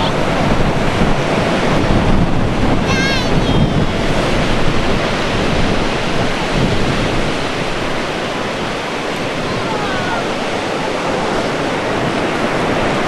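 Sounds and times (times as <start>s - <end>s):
ocean surf washing in: 0.0s - 13.0s
wind buffeting microphone: 0.0s - 13.0s.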